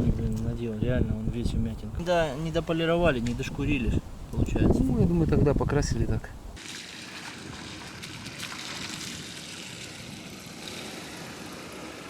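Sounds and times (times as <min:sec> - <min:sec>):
outdoor noise hiss: 0:00.0 - 0:12.0.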